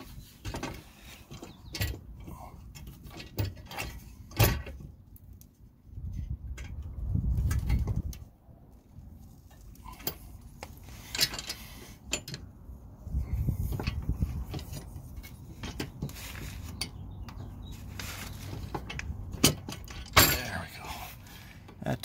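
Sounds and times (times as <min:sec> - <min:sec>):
metal bolt clicks and scrapes: 0:00.0 - 0:08.3, 0:09.4 - 0:12.6, 0:13.5 - 0:21.8.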